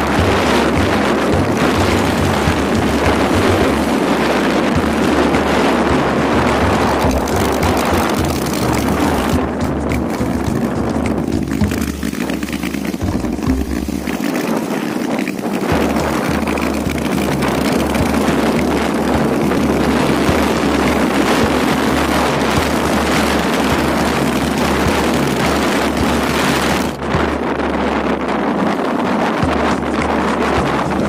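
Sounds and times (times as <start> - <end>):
motorcycle running: 0.0 - 31.0
wind buffeting microphone: 0.0 - 31.0.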